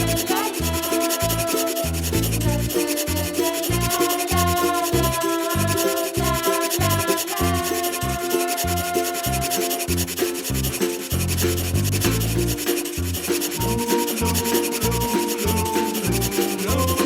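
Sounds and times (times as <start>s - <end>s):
background music with bass: 0.0s - 17.0s.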